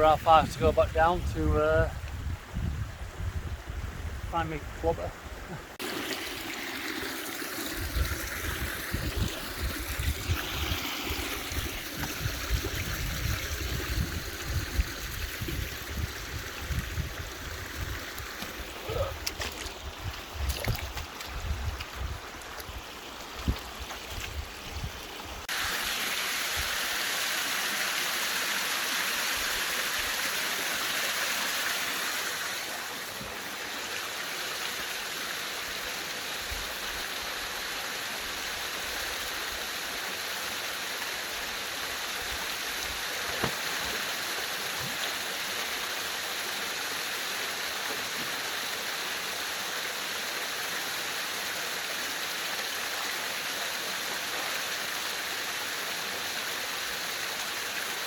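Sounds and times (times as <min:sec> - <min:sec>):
mountain stream rushing: 0:04.4 - 0:58.0.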